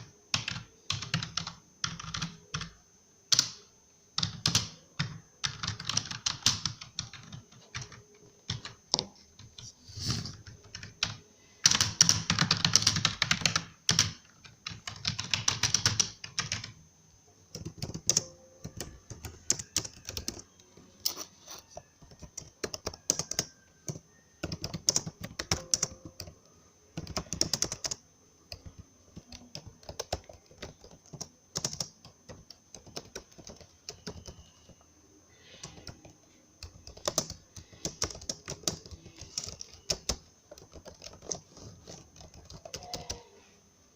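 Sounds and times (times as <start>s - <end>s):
typing on computer keyboard: 0.0s - 9.7s, 10.3s - 16.8s, 17.5s - 20.7s, 21.8s - 34.8s, 35.5s - 43.3s.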